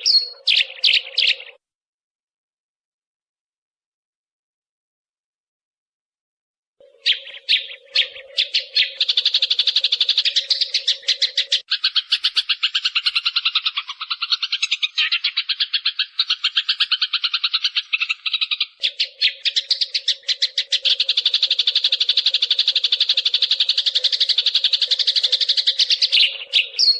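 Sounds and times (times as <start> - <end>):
recorded sparrow chirps: 0.0 - 1.6, 6.8 - 26.9.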